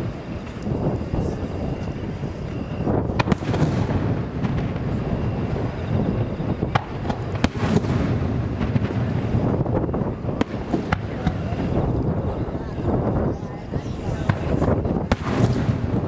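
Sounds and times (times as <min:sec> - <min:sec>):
fireworks cracking: 0:00.0 - 0:16.0
wind buffeting microphone: 0:00.0 - 0:16.0.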